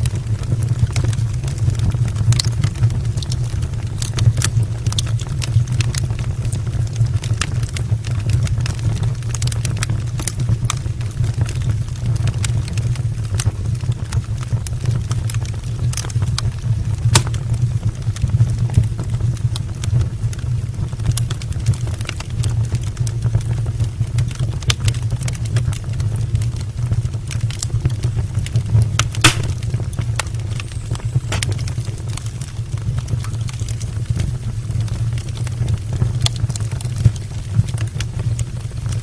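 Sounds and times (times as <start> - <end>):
logs crackling and popping: 0.0 - 39.0
low rumble of flames: 0.0 - 39.0.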